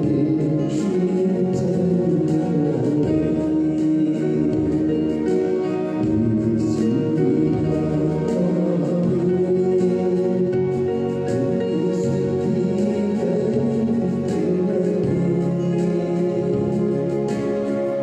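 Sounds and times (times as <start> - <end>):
slow devotional music: 0.0 - 18.0.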